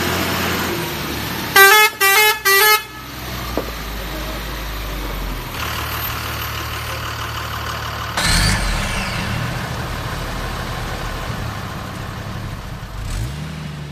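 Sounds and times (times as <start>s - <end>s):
engine idling and revving: 0.0s - 1.7s, 3.0s - 13.9s.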